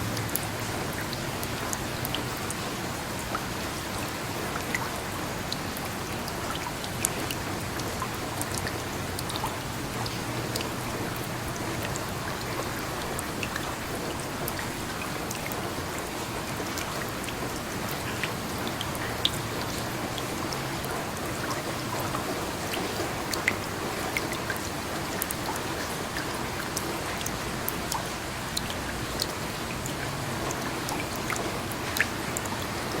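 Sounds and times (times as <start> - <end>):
rain drops ticking on hard surface: 0.0 - 33.0.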